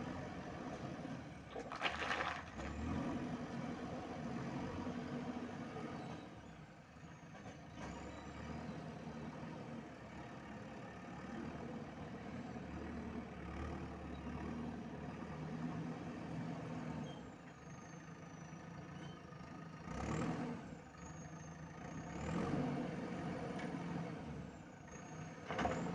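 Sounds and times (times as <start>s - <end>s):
diesel engine under load: 0.0s - 25.9s.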